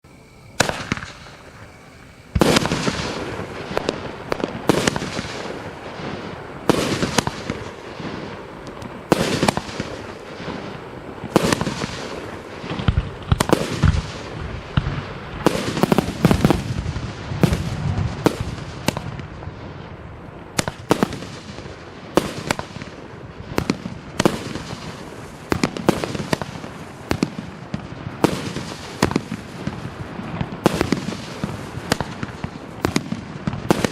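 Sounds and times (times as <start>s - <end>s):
fireworks cake shots and bursts: 0.6s - 33.9s.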